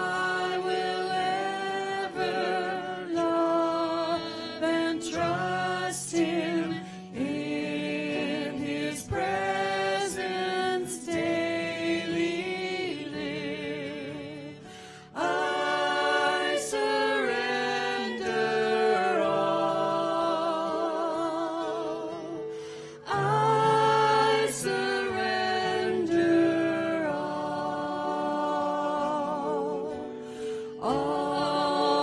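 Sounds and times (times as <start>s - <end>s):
acoustic guitar: 0.0s - 32.0s
woman and man singing a hymn: 0.0s - 32.0s.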